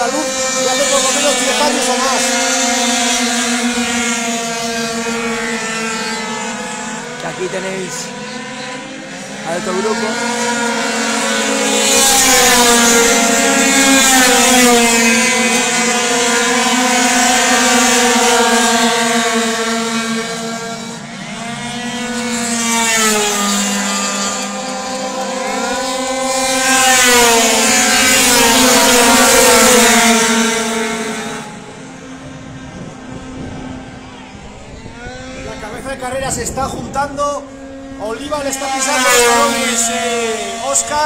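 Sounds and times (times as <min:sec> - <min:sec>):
scooter engines revving past: 0:00.0 - 0:41.0.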